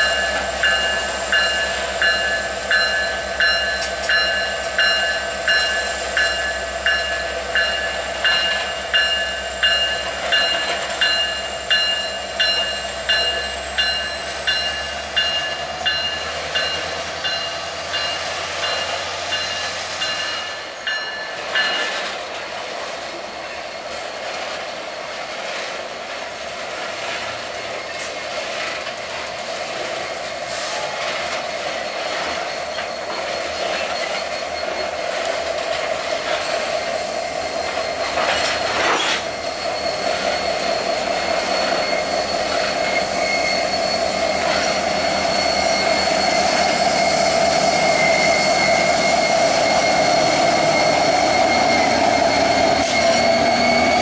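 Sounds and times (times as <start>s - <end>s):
diesel locomotive: 0.0s - 54.0s
train clank: 0.0s - 54.0s
train wheels on rails: 0.0s - 54.0s.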